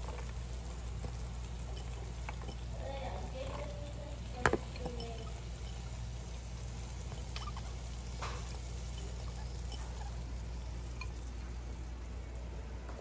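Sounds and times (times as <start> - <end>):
steady low hum: 0.0 - 13.0
vegetables sizzling in pot: 0.0 - 13.0.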